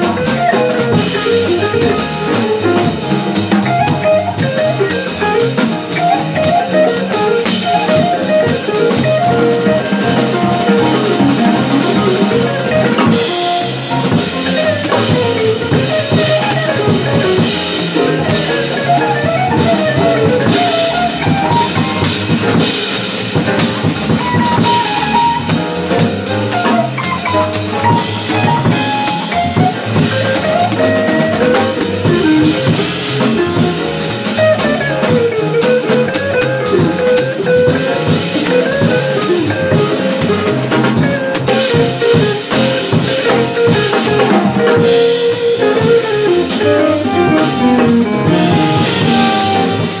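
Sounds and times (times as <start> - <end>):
live jazz band playing: 0.0 - 50.0.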